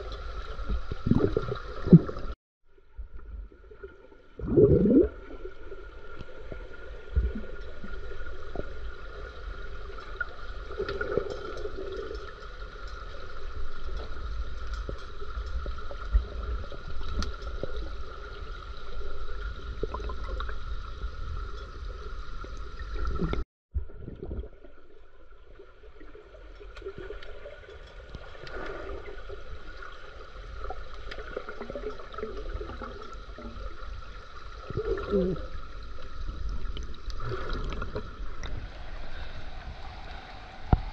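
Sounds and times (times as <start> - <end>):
underwater gurgling and sloshing: 0.0 - 40.9.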